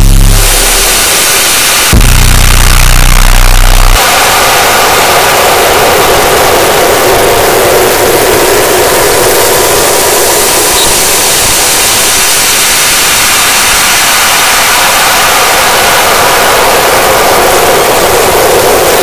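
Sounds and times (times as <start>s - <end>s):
wall of static-like noise: 0.0s - 19.0s.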